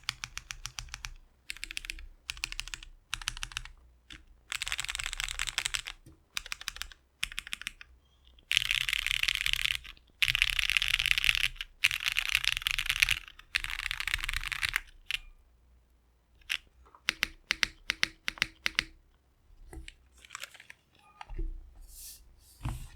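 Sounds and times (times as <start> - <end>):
mechanical keyboard typing: 0.0 - 7.9, 8.5 - 15.3, 16.4 - 19.0, 19.8 - 21.2.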